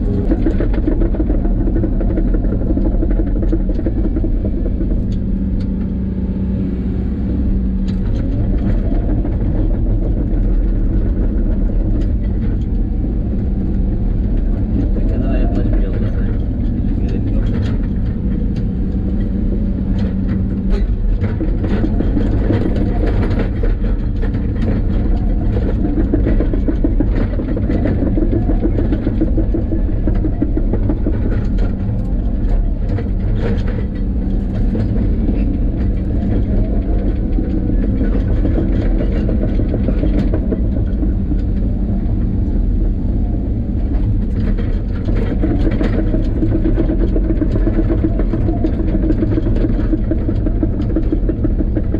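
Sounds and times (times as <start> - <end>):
moving vehicle rumble: 0.0 - 51.9.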